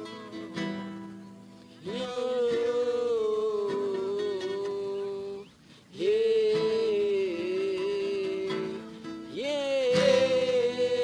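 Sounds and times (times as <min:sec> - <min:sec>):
strummed acoustic guitar: 0:00.0 - 0:11.0
man singing held notes: 0:01.6 - 0:11.0.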